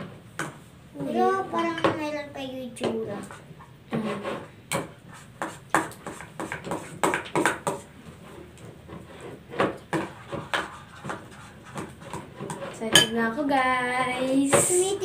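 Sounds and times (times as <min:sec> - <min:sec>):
spatulas stirring thick slime: 0:00.0 - 0:15.0.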